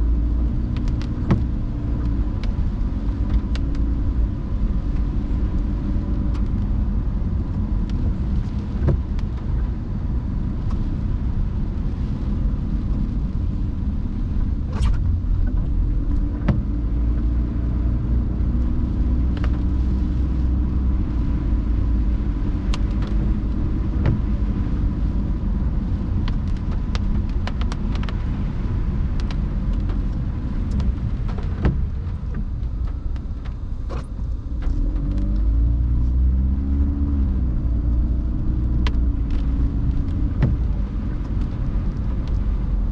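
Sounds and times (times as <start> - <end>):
road and tyre noise: 0.0 - 42.9.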